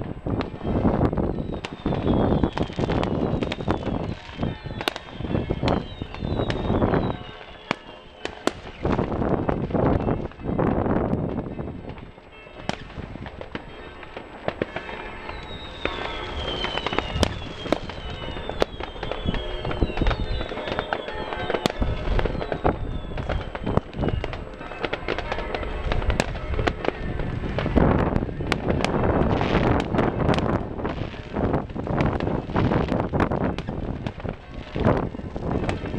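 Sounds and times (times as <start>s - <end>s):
fireworks banging and crackling: 0.0s - 35.9s
wind buffeting microphone: 0.0s - 35.9s
falling firework whistles: 0.2s - 9.4s, 12.7s - 35.9s.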